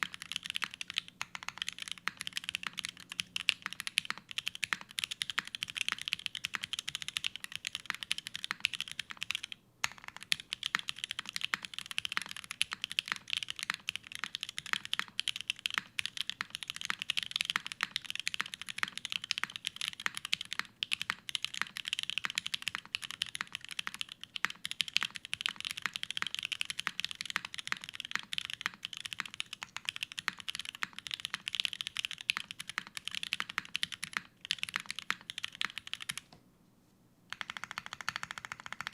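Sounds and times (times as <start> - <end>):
mechanical keyboard typing: 0.0 - 36.3, 37.3 - 38.9.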